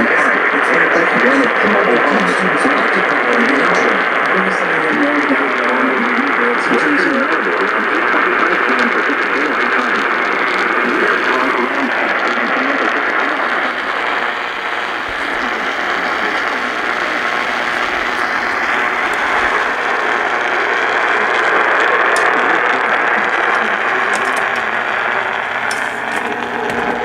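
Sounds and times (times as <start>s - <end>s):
radio static hiss: 0.0s - 27.0s
static crackles: 0.0s - 27.0s.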